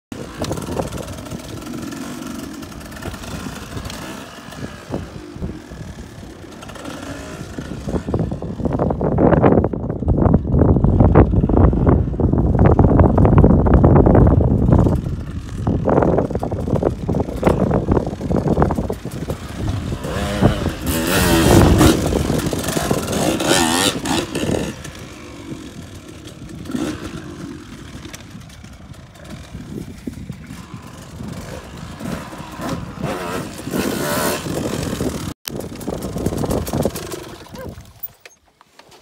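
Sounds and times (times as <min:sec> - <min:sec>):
dirt bike engine revving: 0:00.1 - 0:09.3, 0:14.6 - 0:37.6.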